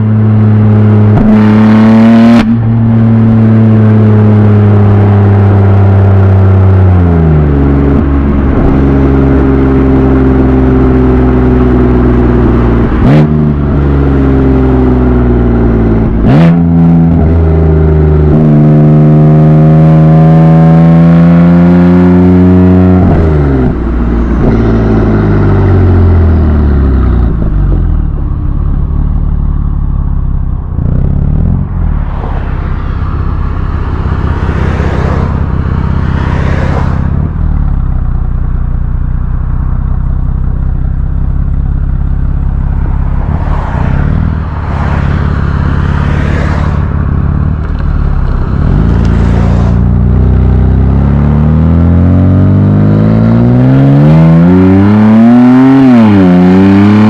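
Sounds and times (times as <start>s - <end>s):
car engine revving exhaust: 0.0s - 57.0s.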